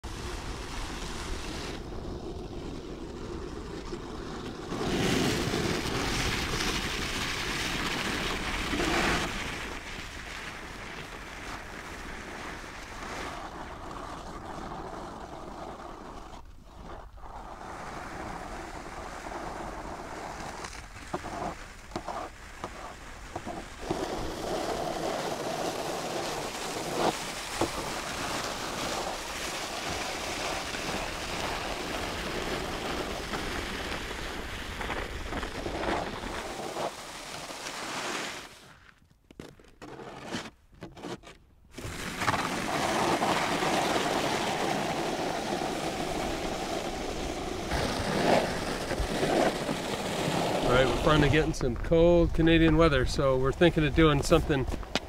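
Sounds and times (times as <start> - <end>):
snow shovels scraping on ice: 4.3 - 51.6.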